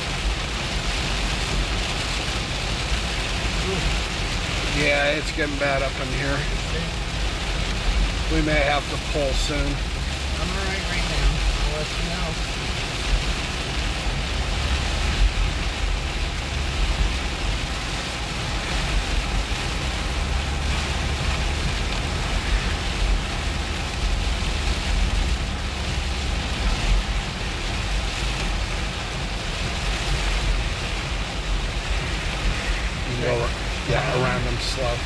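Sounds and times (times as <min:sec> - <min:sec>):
rain beating on a car: 0:00.0 - 0:35.0
road and engine rumble: 0:00.0 - 0:35.0.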